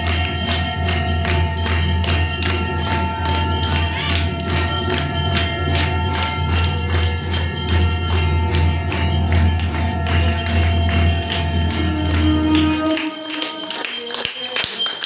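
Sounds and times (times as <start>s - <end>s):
ringing bell-like tones: 0.0s - 15.0s.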